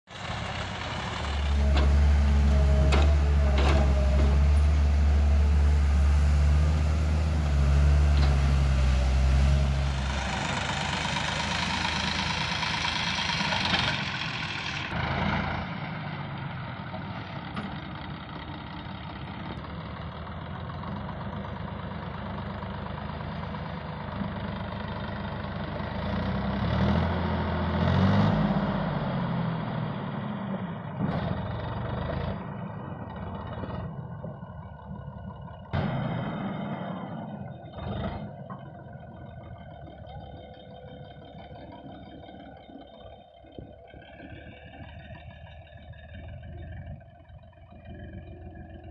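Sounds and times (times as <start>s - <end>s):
diesel engines running: 0.1s - 48.9s.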